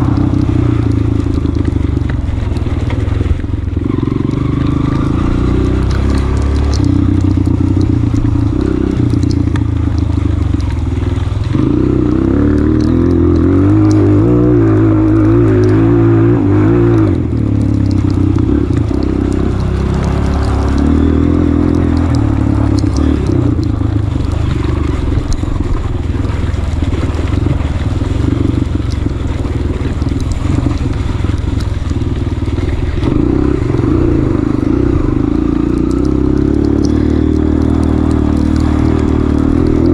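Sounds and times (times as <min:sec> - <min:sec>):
light clicks and clatter: 0:00.0 - 0:39.9
motorcycle engine revving: 0:00.0 - 0:39.9.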